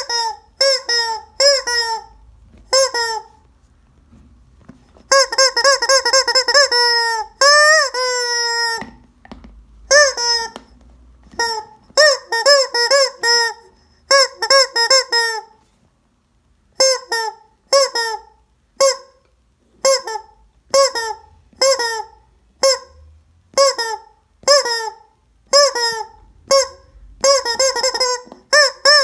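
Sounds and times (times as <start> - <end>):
rubber chicken toy squawking: 0.0 - 3.5, 5.0 - 9.0, 9.9 - 15.6, 16.8 - 19.2, 19.8 - 29.0.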